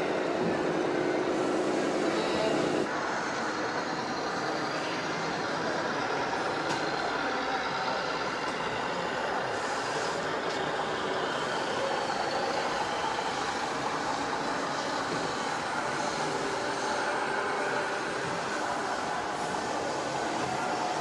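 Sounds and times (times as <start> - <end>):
model truck running: 0.0 - 21.0.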